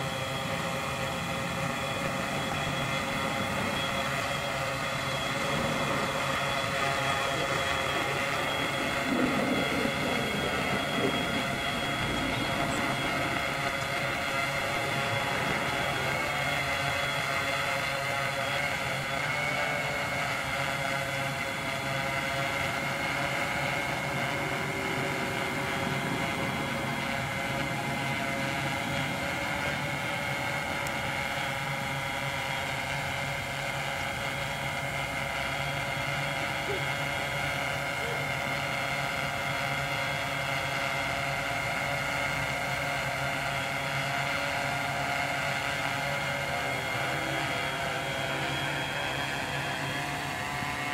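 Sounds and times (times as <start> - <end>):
drone propellers whirring: 0.0 - 50.9.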